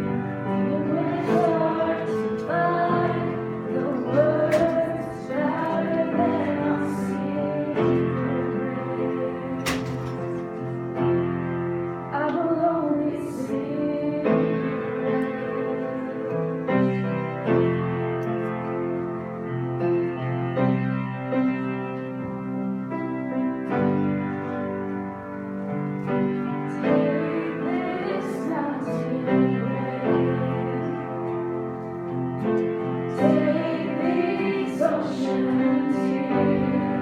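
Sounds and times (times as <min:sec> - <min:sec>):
worship song on piano: 0:00.0 - 0:37.0.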